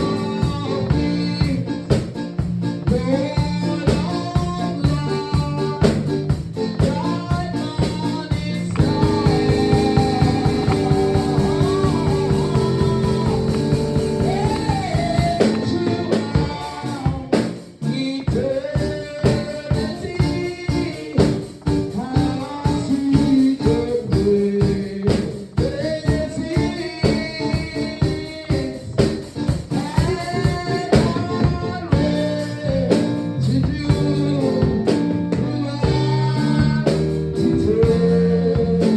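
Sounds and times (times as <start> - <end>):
people singing: 0.0 - 1.8, 6.8 - 38.9
band with drums and guitar: 0.0 - 38.9.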